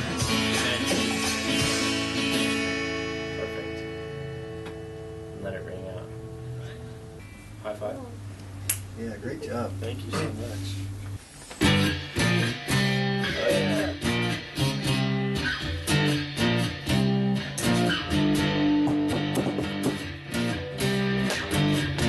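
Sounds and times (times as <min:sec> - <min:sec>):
acoustic guitar strumming chords: 0:00.0 - 0:07.5, 0:11.6 - 0:22.0.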